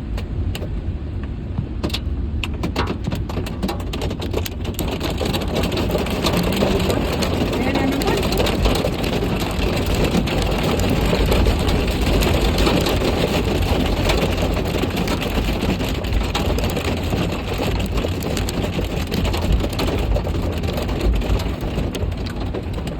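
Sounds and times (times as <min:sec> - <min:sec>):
car engine idling: 0:00.0 - 0:22.9
rain and ice pellets drumming on car: 0:00.0 - 0:22.9.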